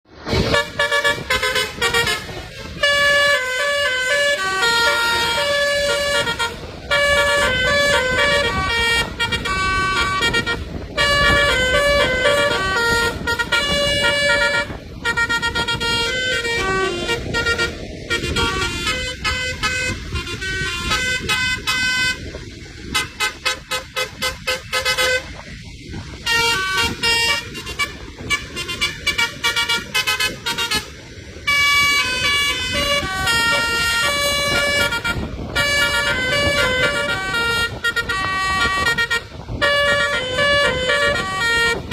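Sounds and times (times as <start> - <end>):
musical bus air horn: 0.1 - 41.9.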